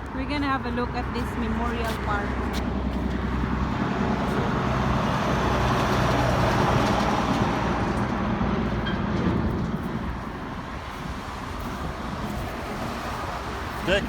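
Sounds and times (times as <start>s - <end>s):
vehicles driving past: 0.0s - 14.0s.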